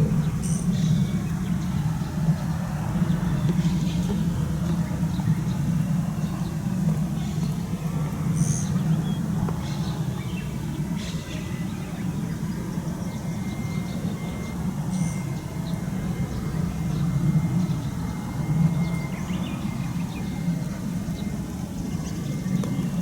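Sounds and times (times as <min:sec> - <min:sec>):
faint whine: 0:00.0 - 0:23.0
vehicles rumbling: 0:00.0 - 0:23.0.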